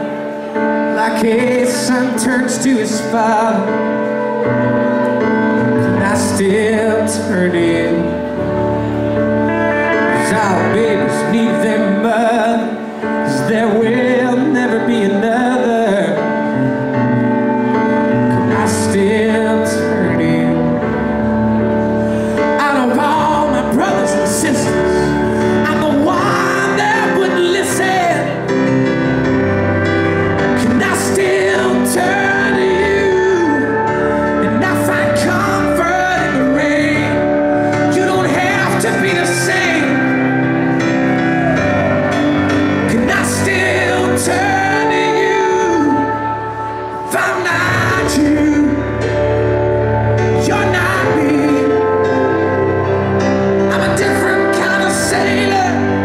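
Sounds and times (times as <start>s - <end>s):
live band playing: 0.0s - 56.0s
man singing: 0.0s - 56.0s.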